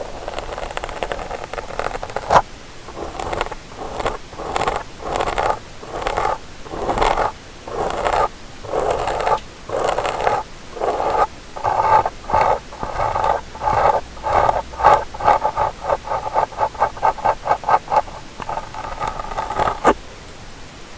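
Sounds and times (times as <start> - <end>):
ear-cleaning tool scraping microphone: 0.0 - 20.0.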